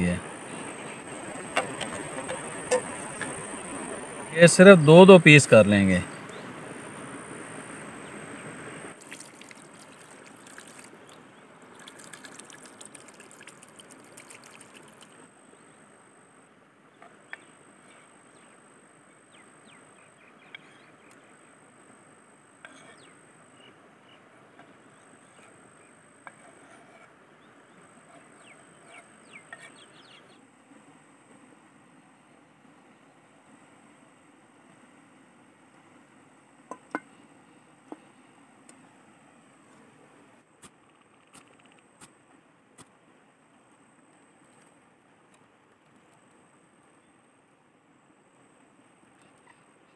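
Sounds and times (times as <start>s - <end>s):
faint outdoor ambience: 0.0s - 49.9s.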